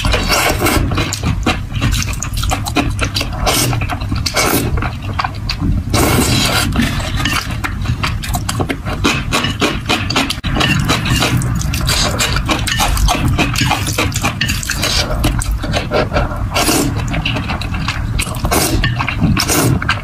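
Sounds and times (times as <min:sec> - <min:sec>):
slurping and chewing noodles: 0:00.0 - 0:20.0.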